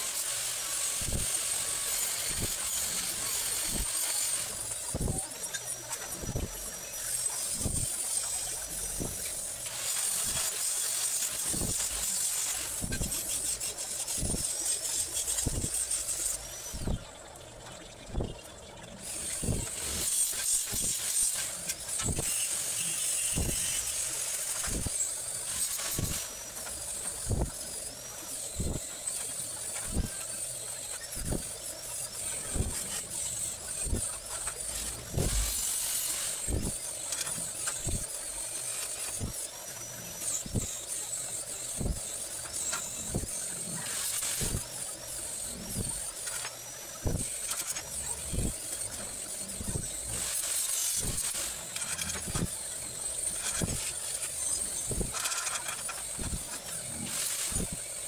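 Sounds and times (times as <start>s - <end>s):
welding arc hissing and crackling: 0.0s - 58.0s.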